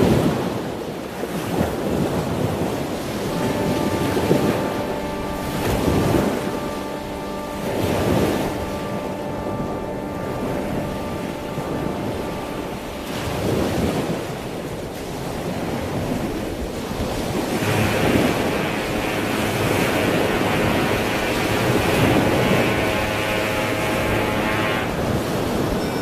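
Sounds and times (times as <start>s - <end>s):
rough sea water rushing: 0.0s - 26.0s
wind: 0.0s - 26.0s.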